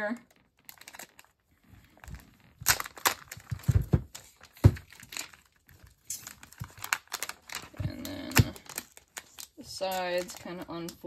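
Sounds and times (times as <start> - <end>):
packaging wrap crinkling and tearing: 0.2 - 11.0.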